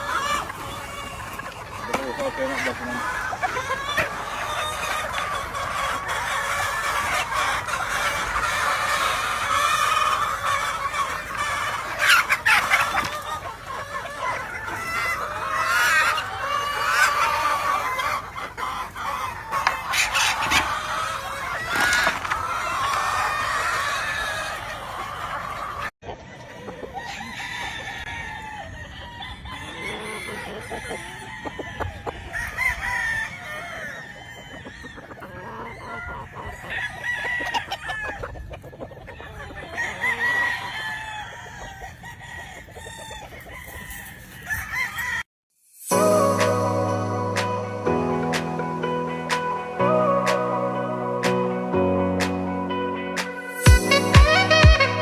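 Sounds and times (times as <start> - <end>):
chickens clucking: 0.0 - 45.2, 45.9 - 55.0
roosters crowing: 0.0 - 45.3.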